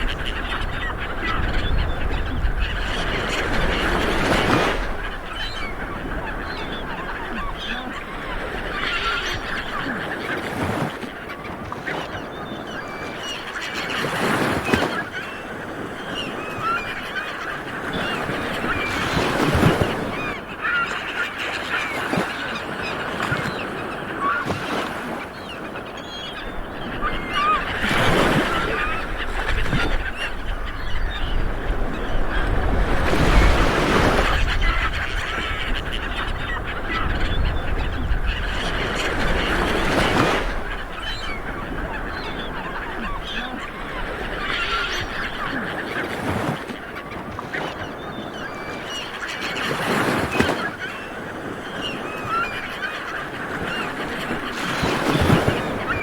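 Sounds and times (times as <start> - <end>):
birds calling: 0.0 - 56.0
waves breaking on a beach: 0.0 - 56.0.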